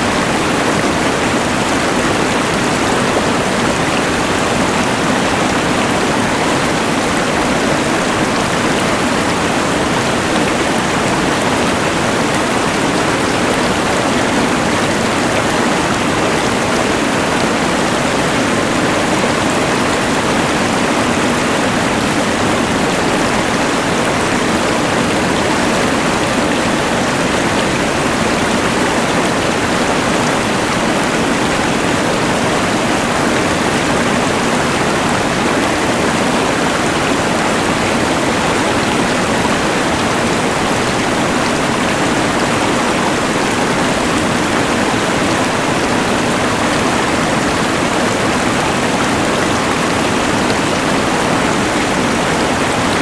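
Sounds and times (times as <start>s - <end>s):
rushing river: 0.0s - 53.0s.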